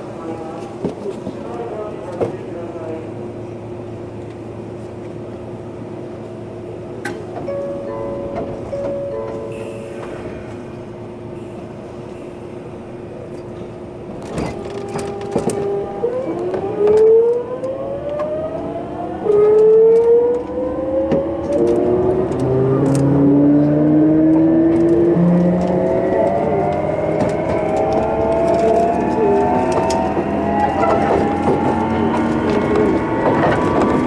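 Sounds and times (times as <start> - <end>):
train inverter whining tones: 4.0 - 34.0.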